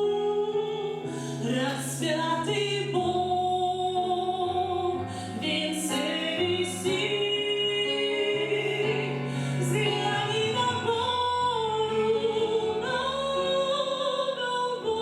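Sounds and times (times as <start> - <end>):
woman singing a hymn: 0.0 - 15.0.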